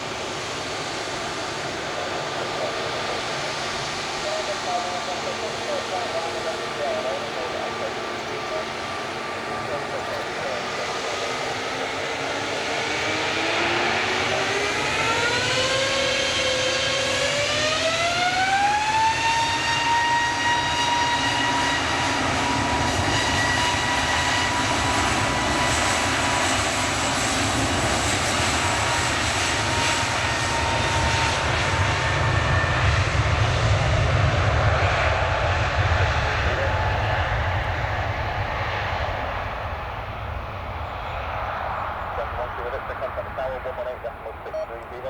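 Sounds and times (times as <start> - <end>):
jet engines spooling up whine: 0.0 - 45.0.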